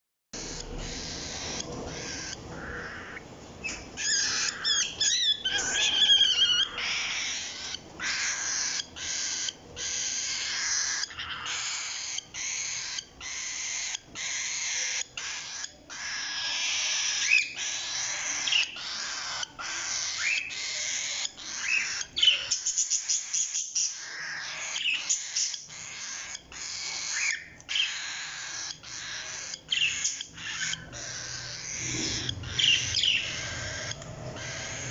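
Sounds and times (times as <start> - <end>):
parrots screeching: 0.4 - 34.9.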